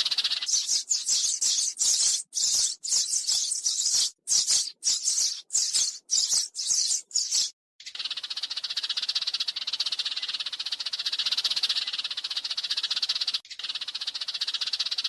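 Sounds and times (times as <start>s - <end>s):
sparrow chirping: 0.0s - 15.0s
sparrow rattling trill: 0.0s - 15.0s.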